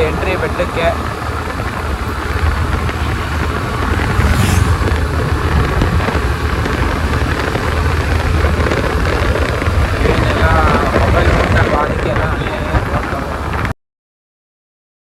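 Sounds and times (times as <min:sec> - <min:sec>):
motorcycle engine running: 0:00.0 - 0:13.7
wind buffeting microphone: 0:00.0 - 0:13.7.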